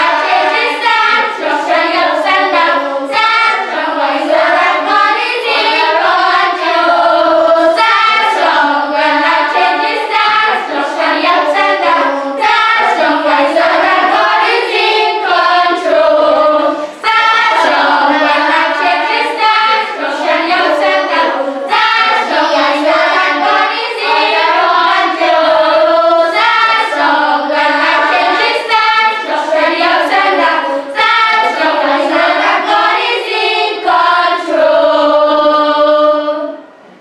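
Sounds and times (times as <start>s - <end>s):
children's choir singing: 0.0s - 37.0s.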